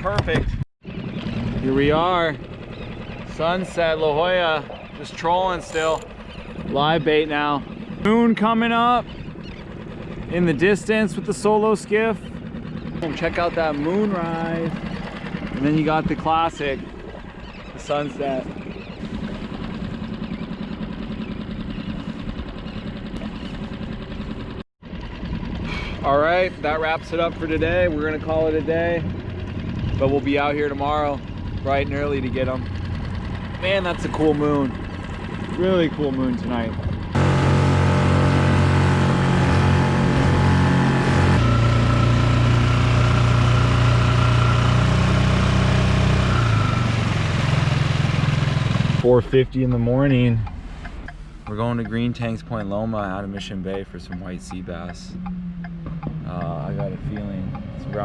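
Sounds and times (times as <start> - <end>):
engine running steadily: 0.0 - 58.0
outboard motor humming: 0.0 - 58.0.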